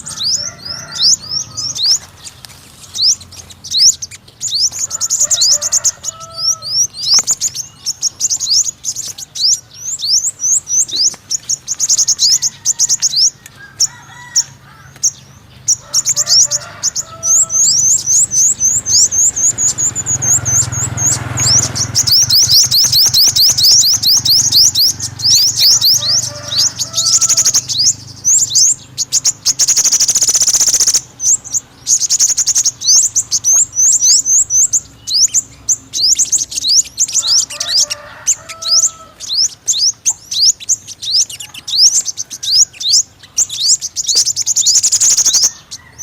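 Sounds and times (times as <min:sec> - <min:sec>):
sunbird twittering: 0:00.0 - 0:14.4, 0:15.1 - 0:46.0.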